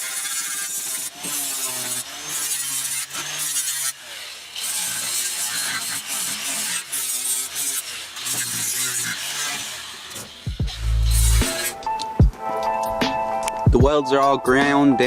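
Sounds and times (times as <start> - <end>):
angle grinder grinding metal: 0.0 - 12.2.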